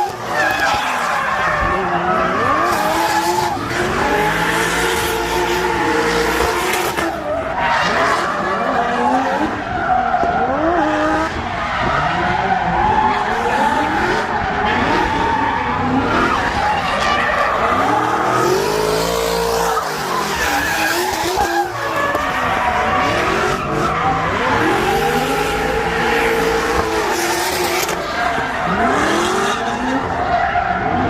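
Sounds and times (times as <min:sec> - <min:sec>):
tyres skidding and squealing: 0:00.0 - 0:31.0
car engine revving hard: 0:01.6 - 0:07.2, 0:10.4 - 0:30.2.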